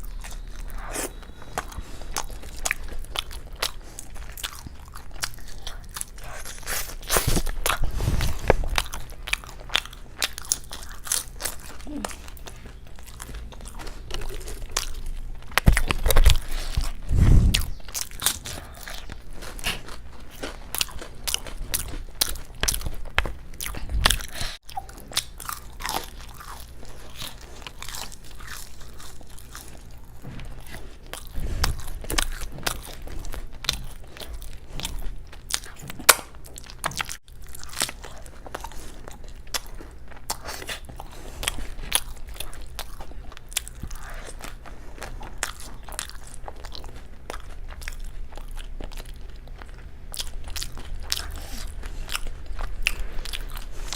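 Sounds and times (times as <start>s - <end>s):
chewing crisp food: 0.0s - 53.9s.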